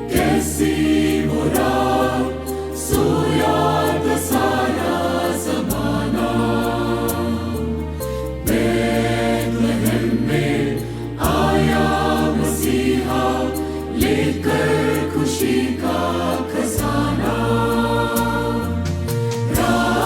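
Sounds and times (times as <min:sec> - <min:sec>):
church choir singing: 0:00.0 - 0:20.0
percussion strikes: 0:00.0 - 0:20.0
sustained bass notes: 0:00.0 - 0:20.0.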